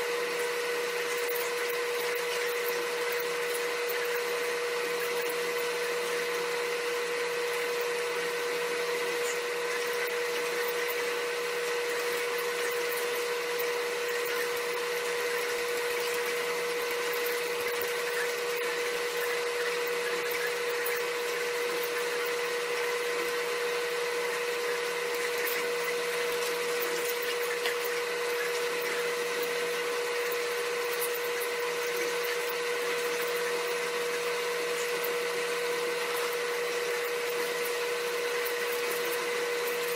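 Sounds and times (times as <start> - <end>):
electric motor hum with whine: 0.0 - 39.9.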